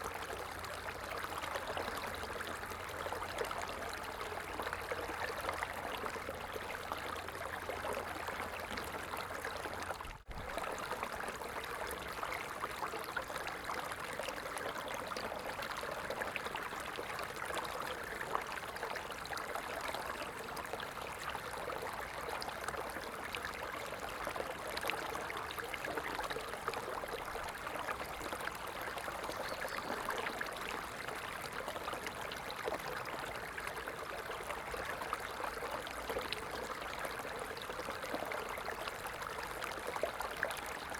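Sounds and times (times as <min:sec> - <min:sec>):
stream water running: 0:00.0 - 0:40.9
water splashes and trickles: 0:00.0 - 0:40.9.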